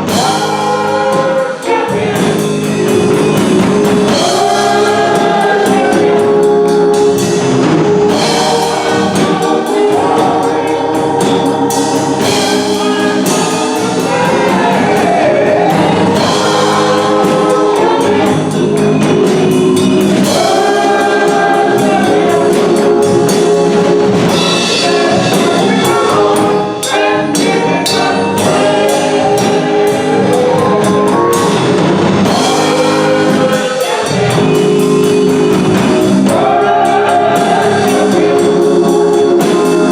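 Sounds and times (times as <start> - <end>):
band accompaniment: 0.0 - 39.9
drum kit: 0.0 - 39.9
gospel choir singing: 0.0 - 39.9.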